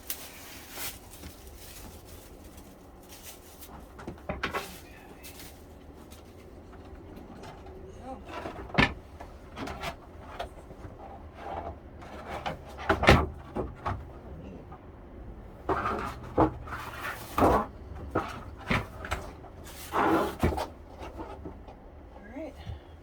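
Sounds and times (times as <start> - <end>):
rustling: 0.0 - 22.8.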